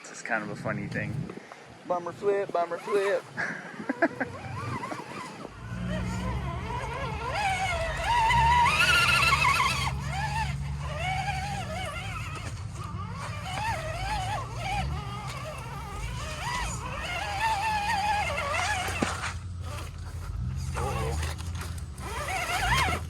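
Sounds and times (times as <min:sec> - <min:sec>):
electric motors whining: 0:00.4 - 0:23.0.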